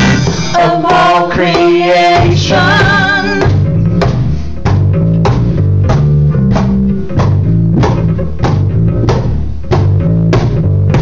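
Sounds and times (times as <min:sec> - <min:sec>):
bass guitar: 0:00.0 - 0:11.0
drum kit beat: 0:00.0 - 0:11.0
electric guitar: 0:00.0 - 0:11.0.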